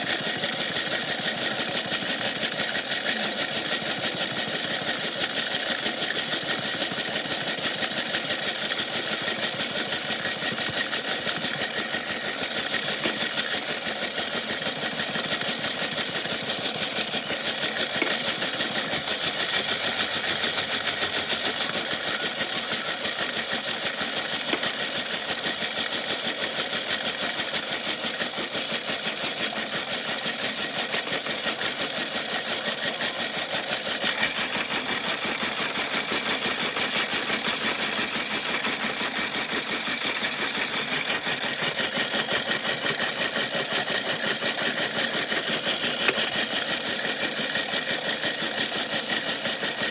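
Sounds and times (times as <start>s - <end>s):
washing machine rattling with rock: 0.0s - 49.9s.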